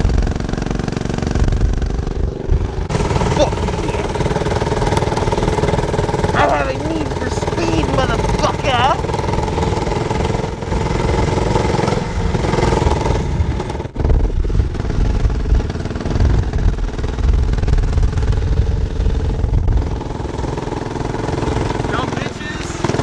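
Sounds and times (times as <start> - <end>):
wind rumble on microphone: 0.0 - 20.9
small motorcycle engine running: 0.0 - 23.0.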